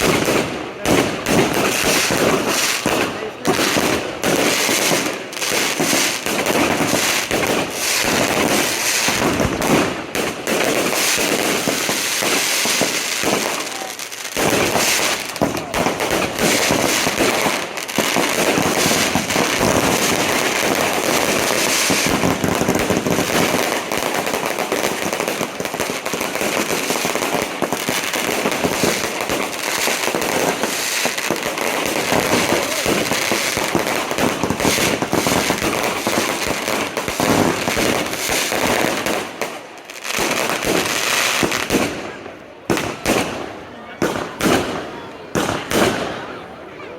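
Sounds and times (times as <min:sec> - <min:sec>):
firecrackers crackling: 0:00.0 - 0:46.9.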